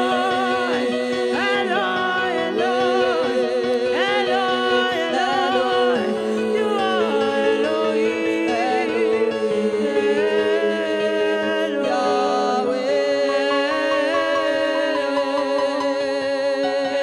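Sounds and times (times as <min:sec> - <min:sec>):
held background chords: 0:00.0 - 0:17.0
woman singing into a microphone: 0:00.0 - 0:17.0.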